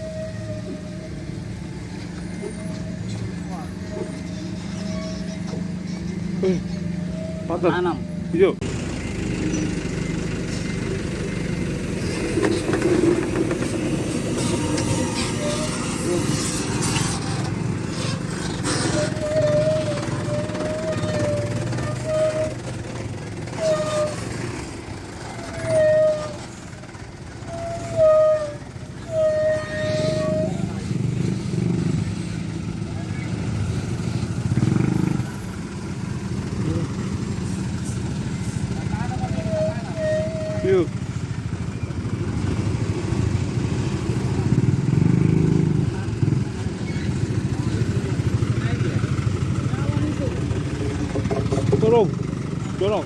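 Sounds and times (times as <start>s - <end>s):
vehicle engine rumbling: 0.0s - 53.0s.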